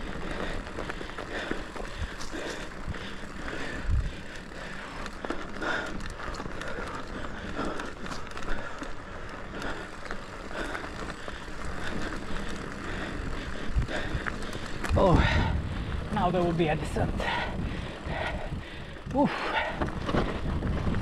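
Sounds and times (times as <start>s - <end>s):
bike tyres on dirt trail: 0.0s - 21.0s.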